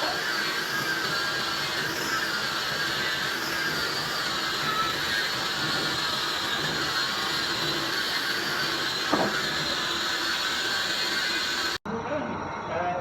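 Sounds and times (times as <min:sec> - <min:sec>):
machine tool running with whine: 0:00.0 - 0:11.8.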